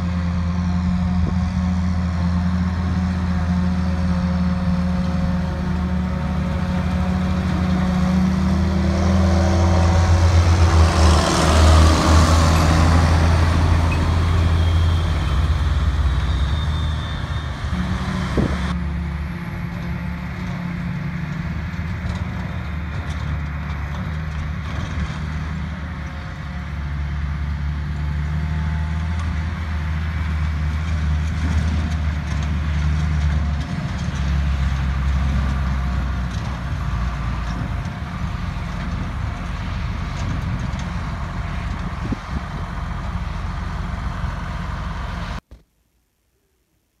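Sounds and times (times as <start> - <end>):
large diesel machinery running: 0.0 - 45.4.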